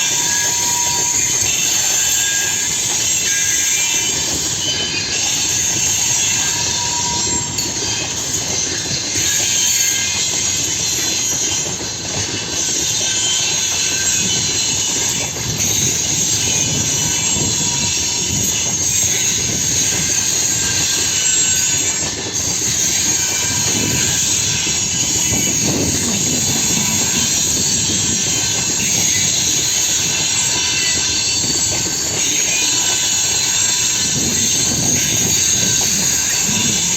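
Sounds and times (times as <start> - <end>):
high squeal: 0.0 - 36.9
train wheels clattering on rails: 0.0 - 36.9.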